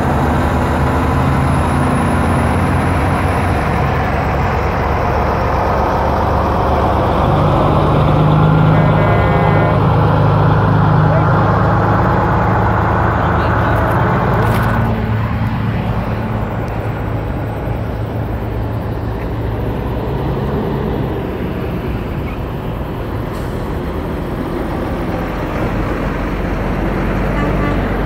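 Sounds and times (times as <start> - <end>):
truck diesel engines passing: 0.0 - 28.0.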